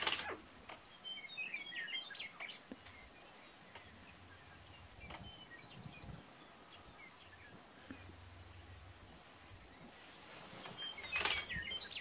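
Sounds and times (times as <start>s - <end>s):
birds chirping: 0.0s - 12.0s
faint outdoor background noise: 0.0s - 12.0s.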